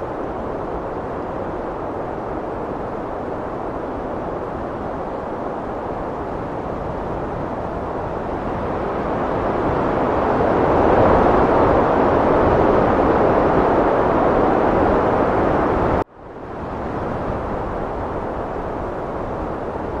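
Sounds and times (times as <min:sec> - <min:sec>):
heavy wind blowing: 0:00.0 - 0:20.0.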